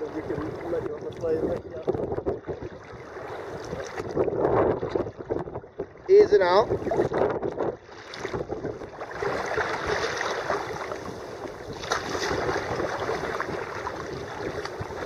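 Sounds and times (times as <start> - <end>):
paddle strokes splashing: 0.0 - 7.2, 7.8 - 15.0
water sloshing against hull: 0.0 - 15.0.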